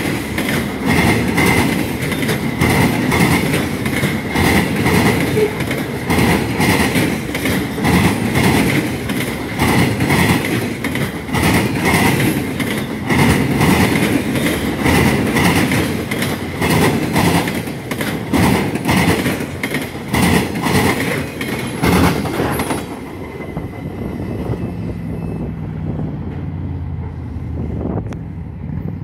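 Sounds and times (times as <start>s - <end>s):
train wheels clacking over rail joints: 0.0s - 24.7s.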